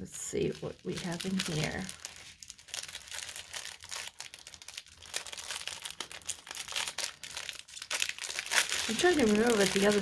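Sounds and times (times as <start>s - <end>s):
plastic packaging crinkling: 0.3s - 10.0s.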